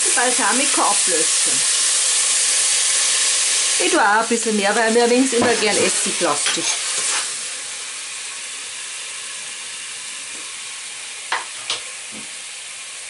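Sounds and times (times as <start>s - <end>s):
onion sizzling in a pan: 0.0s - 13.0s.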